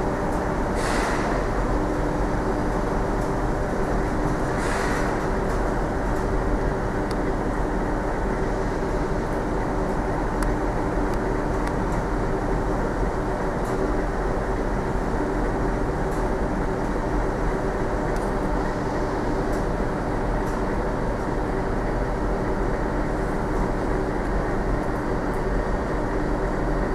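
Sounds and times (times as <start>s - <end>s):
low rumble and hum: 0.0s - 26.9s.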